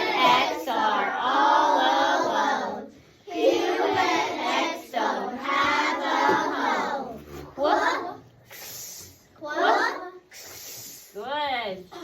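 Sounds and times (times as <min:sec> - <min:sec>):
children chanting vowel sounds: 0:00.0 - 0:10.9.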